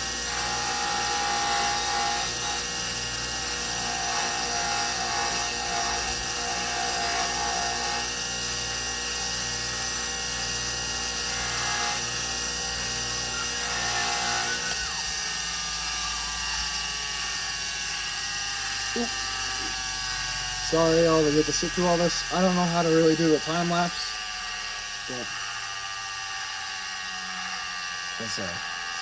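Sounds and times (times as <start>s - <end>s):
electric power tool running: 0.0s - 29.0s.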